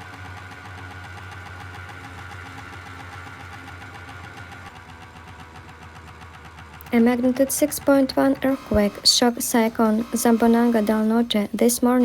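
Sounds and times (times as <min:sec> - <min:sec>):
higher motor tone: 0:00.0 - 0:12.0
motor humming with rattling pulse: 0:00.0 - 0:12.0.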